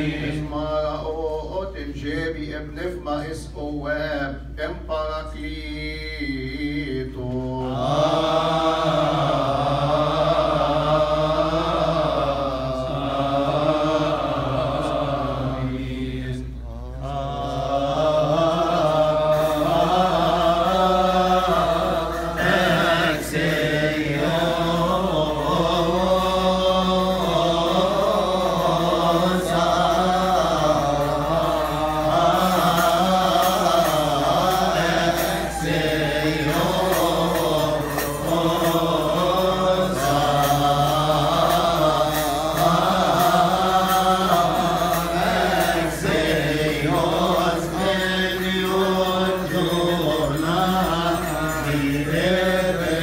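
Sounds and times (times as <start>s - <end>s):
voices chanting a hymn: 0.0s - 53.0s.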